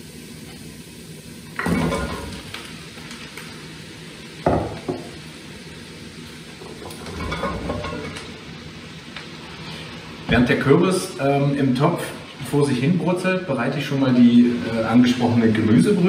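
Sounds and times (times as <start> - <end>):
short sizzle in oil: 0.0 - 13.0.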